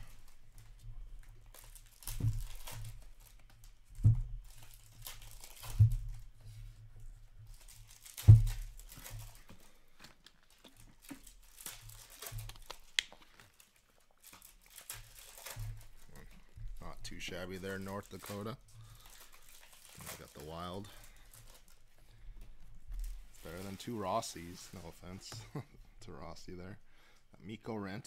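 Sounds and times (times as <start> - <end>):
plastic sleeves crinkling: 0.0 - 27.6.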